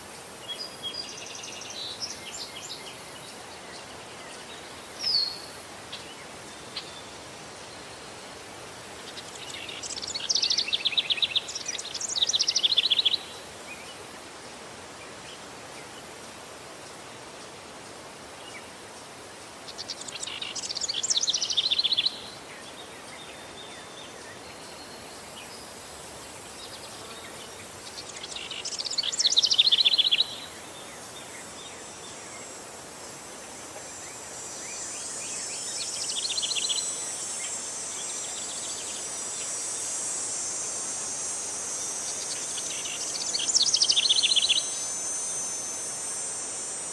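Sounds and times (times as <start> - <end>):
songbird singing: 0.0 - 8.4, 9.0 - 14.1, 16.8 - 32.7, 33.5 - 40.4, 41.2 - 45.8
background hiss: 0.0 - 46.9
high insect buzz: 0.0 - 46.9.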